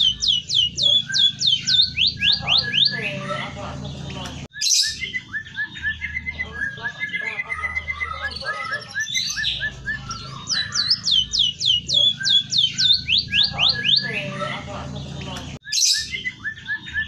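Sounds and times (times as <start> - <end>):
bird chirping song: 0.0 - 17.0.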